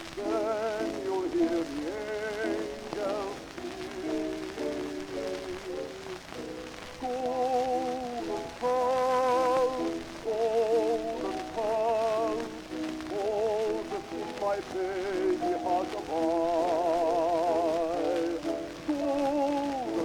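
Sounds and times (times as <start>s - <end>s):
record crackle and hiss: 0.0s - 20.0s.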